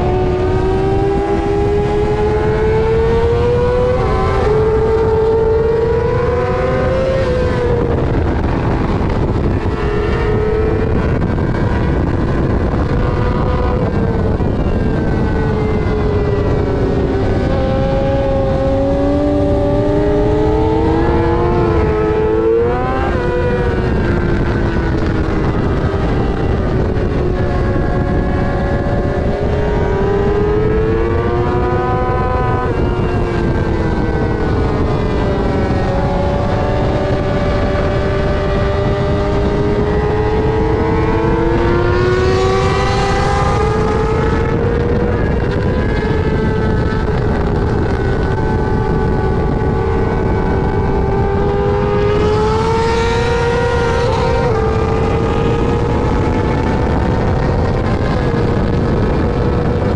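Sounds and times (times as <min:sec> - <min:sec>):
motorcycle engine revving high: 0:00.0 - 0:59.9
wind rush: 0:00.0 - 0:59.9.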